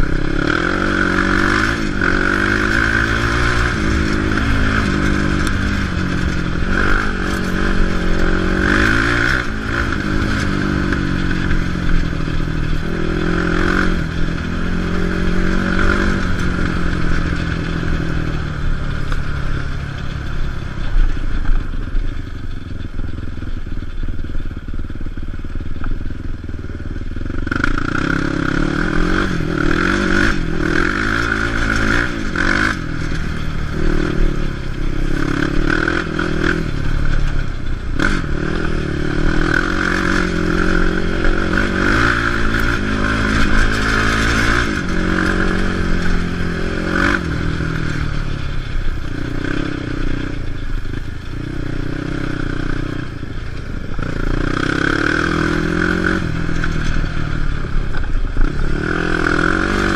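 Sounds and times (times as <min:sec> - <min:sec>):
quad engine revving: 0:00.0 - 0:19.7, 0:27.2 - 0:59.9.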